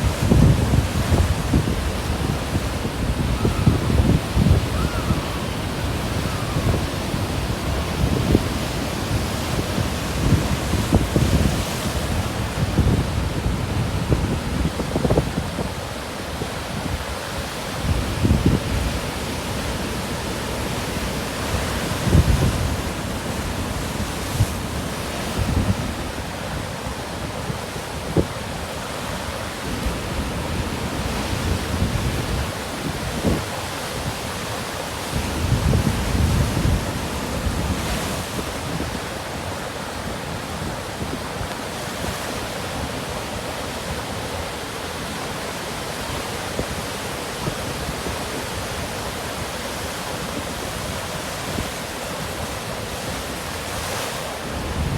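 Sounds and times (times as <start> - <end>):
wind buffeting microphone: 0.0 - 44.4, 46.5 - 54.9
surf breaking on shore: 0.0 - 54.9.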